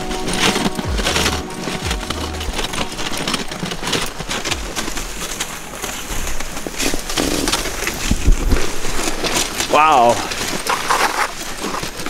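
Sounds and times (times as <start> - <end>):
sled runners hissing on snow: 0.0 - 12.0.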